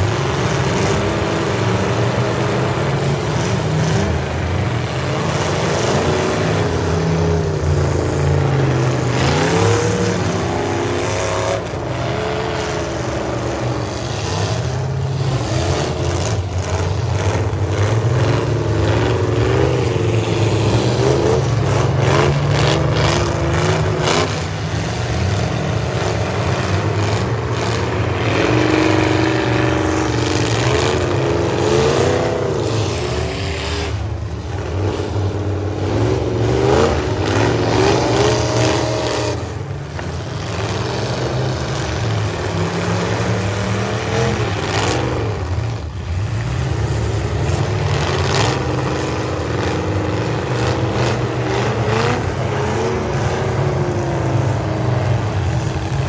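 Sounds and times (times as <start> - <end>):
truck engines revving: 0.0 - 56.0.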